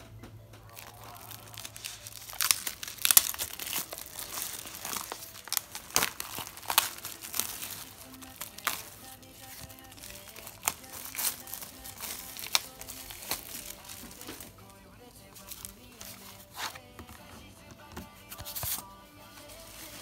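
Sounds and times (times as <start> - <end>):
plastic shrink-wrap tearing and crinkling: 0.6 - 17.3, 18.3 - 20.0.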